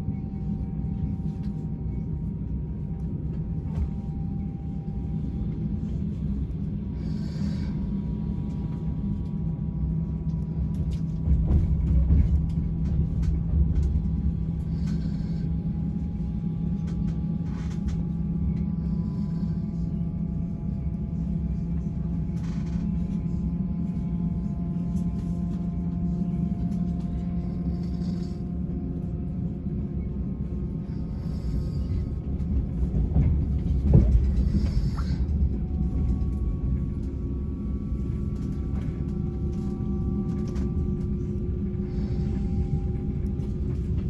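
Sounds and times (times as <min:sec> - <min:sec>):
faint whine: 0:00.0 - 0:44.0
train rumble inside carriage: 0:00.0 - 0:44.0.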